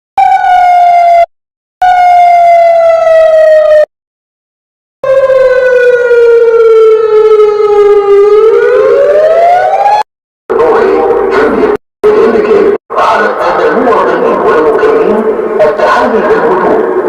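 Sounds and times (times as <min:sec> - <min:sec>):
warning siren: 0:00.2 - 0:03.9, 0:05.0 - 0:17.0.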